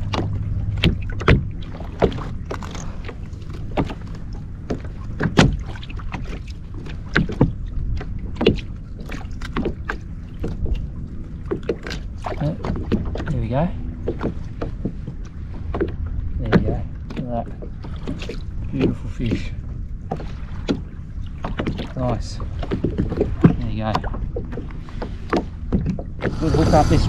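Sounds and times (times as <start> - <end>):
wind and water rush: 0.0 - 27.0.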